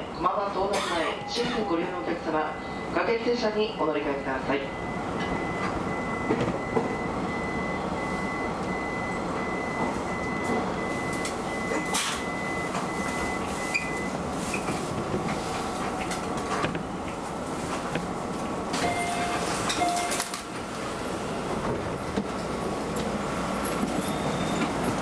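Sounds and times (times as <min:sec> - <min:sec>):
train equipment hum: 0:00.0 - 0:25.0.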